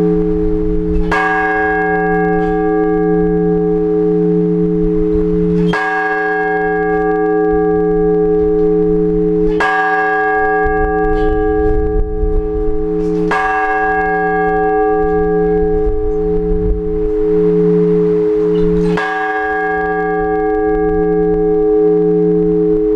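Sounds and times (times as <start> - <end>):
heavy church bell ringing: 0.0 - 22.9.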